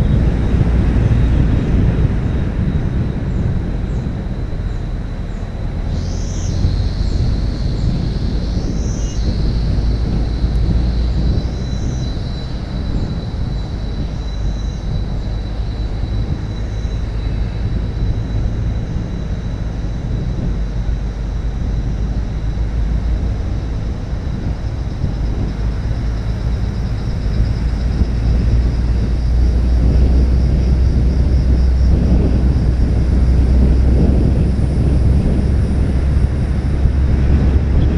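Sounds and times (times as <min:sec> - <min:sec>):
wind and road noise: 0:00.0 - 0:37.9.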